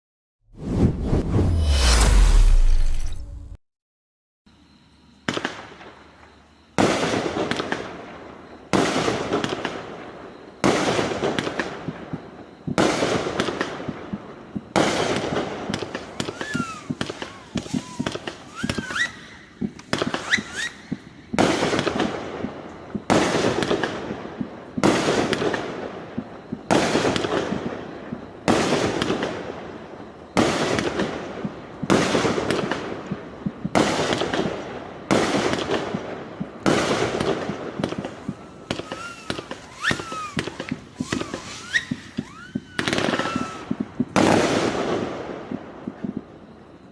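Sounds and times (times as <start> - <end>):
rising firework whistles: 0.6 - 3.5, 5.2 - 46.9
fireworks bangs: 6.8 - 46.4.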